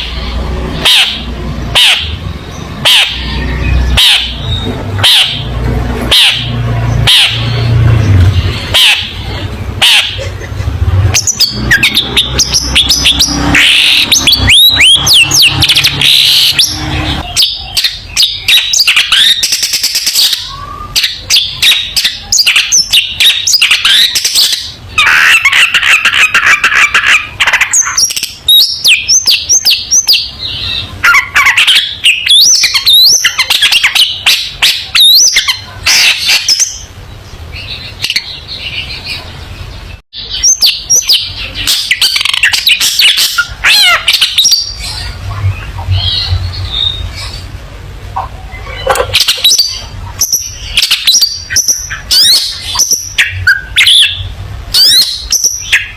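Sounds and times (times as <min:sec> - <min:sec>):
harsh buzzy bird chatter: 0:00.0 - 0:55.9
shrike singing: 0:00.0 - 0:55.9.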